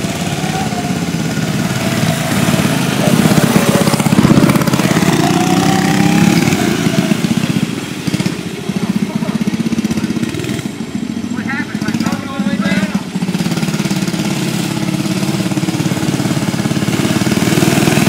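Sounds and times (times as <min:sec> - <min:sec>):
mini bike engine revving: 0:00.0 - 0:18.0.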